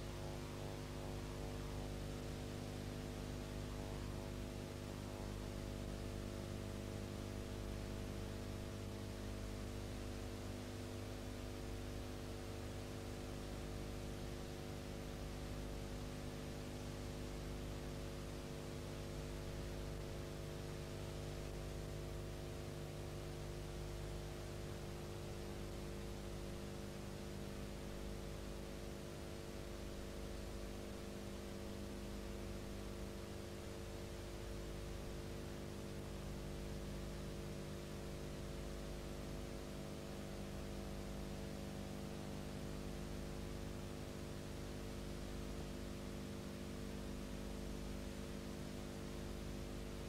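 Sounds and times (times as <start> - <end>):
constant hiss: 0.0 - 50.0
electrical hum: 0.0 - 50.0.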